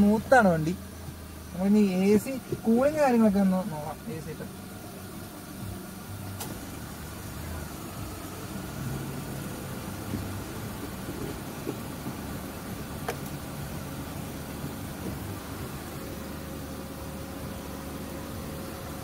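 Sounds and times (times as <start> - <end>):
air conditioning blower: 0.0 - 19.0
car engine idling: 0.0 - 19.0.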